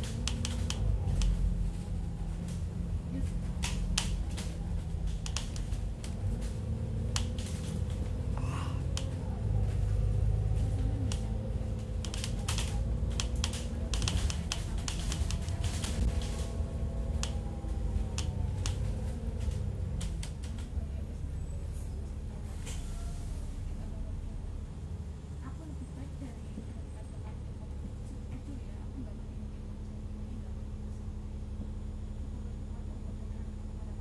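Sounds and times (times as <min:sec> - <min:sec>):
bus engine and road rumble: 0:00.0 - 0:34.0.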